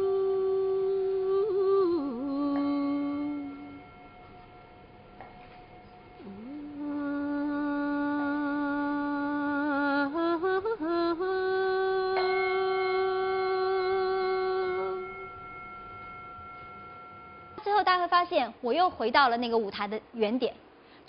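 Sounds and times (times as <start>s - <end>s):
person singing chant-like notes: 0.0s - 17.6s.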